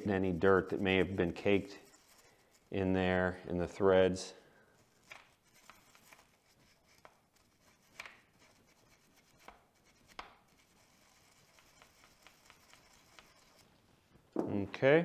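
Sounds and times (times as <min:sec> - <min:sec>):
wire brush scrubbing metal: 0:00.0 - 0:03.9, 0:04.8 - 0:13.7.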